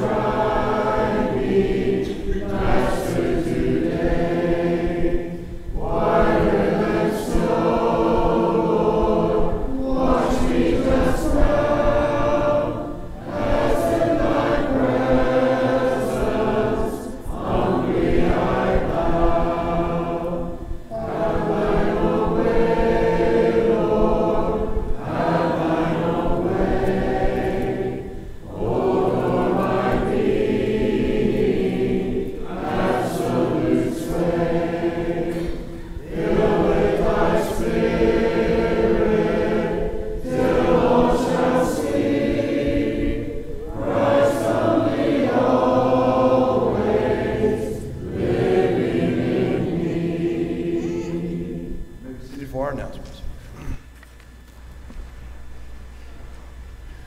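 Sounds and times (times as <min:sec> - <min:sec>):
congregation singing a hymn: 0:00.0 - 0:53.8.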